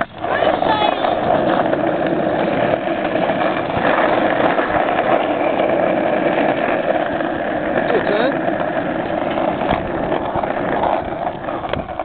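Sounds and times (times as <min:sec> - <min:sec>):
hard wheels grinding on asphalt: 0:00.0 - 0:12.0.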